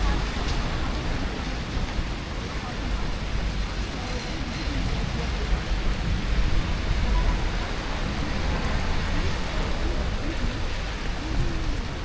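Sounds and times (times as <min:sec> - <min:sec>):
rain hissing: 0:00.0 - 0:12.0
traffic rumble: 0:00.0 - 0:12.0.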